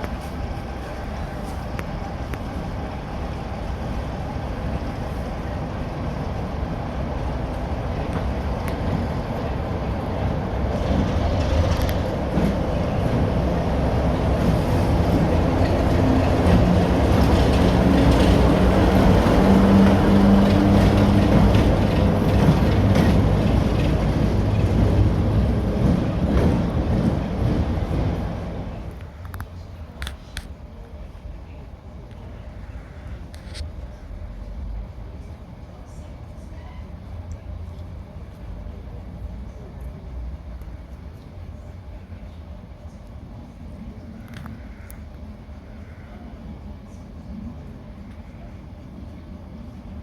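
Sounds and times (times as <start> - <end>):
diesel locomotive engine droning: 0.0 - 50.0.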